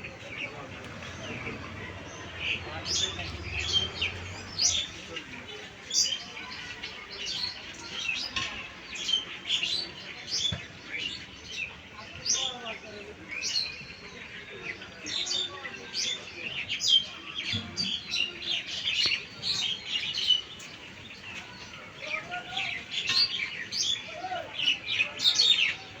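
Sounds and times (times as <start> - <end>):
small birds chirping and twittering: 0.0 - 26.0.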